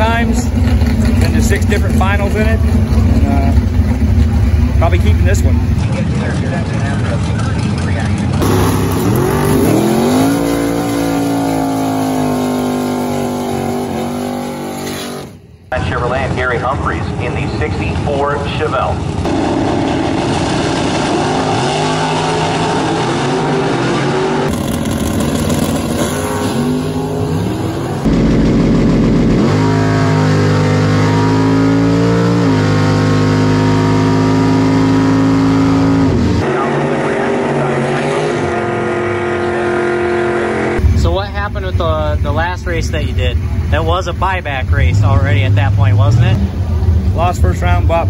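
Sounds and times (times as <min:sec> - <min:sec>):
engines revving: 0:00.0 - 0:48.0.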